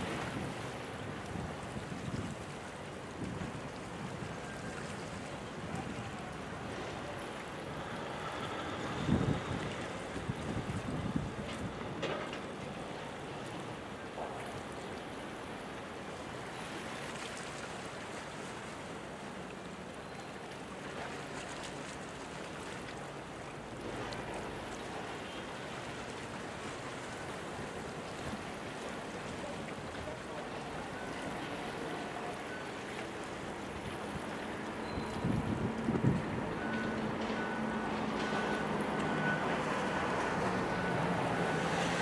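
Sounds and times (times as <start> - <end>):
wind: 0.0 - 42.0.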